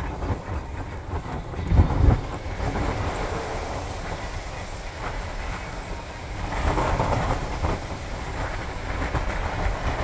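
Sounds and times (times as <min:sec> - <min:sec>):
tyres rumbling on wet road: 0:00.0 - 0:10.0.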